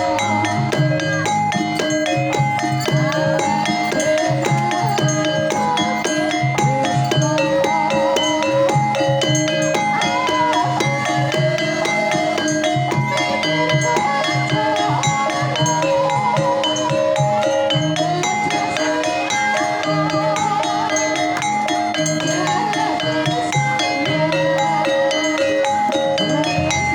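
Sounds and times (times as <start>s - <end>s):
hand drumming: 0.0s - 26.9s
metallophones striking notes: 0.0s - 26.9s.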